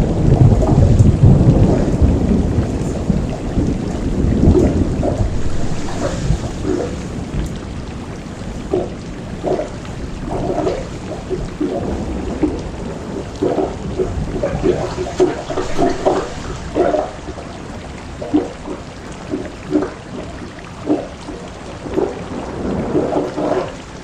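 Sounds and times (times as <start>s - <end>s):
low thunder rumble: 0.0s - 18.8s, 21.0s - 24.0s
pouring rain: 0.0s - 24.0s
water pattering on surfaces: 0.0s - 24.0s.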